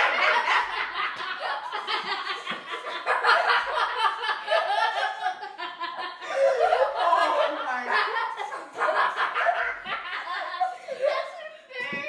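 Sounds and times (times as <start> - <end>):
woman and girls laughing: 0.0 - 12.0.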